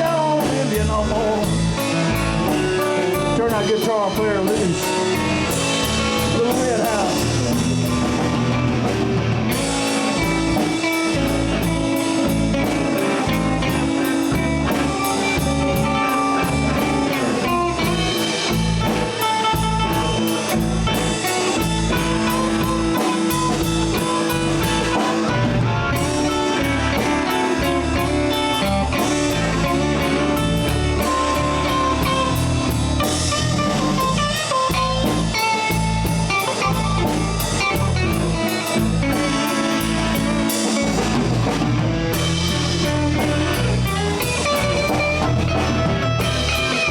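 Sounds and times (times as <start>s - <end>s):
bass: 0.0s - 46.9s
drum kit: 0.0s - 46.9s
electric guitar solo: 0.0s - 46.9s.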